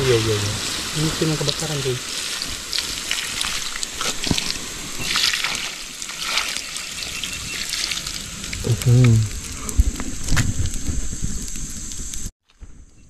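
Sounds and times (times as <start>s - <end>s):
water splashing onto fire: 0.0s - 12.1s
fire crackling: 0.0s - 13.0s.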